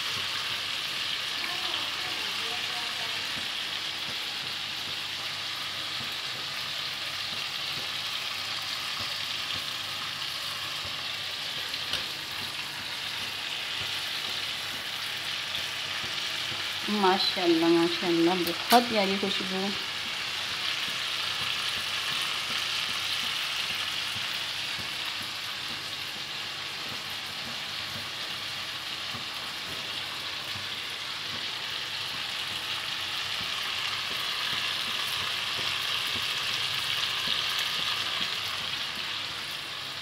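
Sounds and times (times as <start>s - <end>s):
meatballs sizzling in oil: 0.0s - 40.0s.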